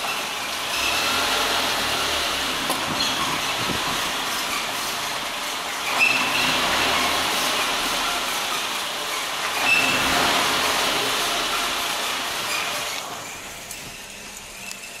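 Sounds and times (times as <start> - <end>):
car squeaking and creaking: 0.0 - 15.0
road noise: 0.0 - 15.0
short high-pitched squeaks: 1.9 - 15.0.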